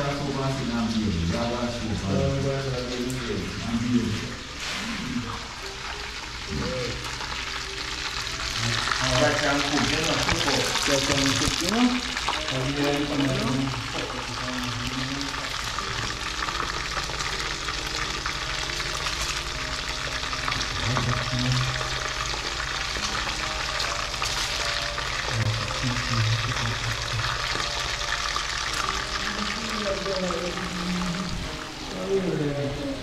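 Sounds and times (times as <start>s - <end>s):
fish frying in a pot: 0.0s - 32.0s.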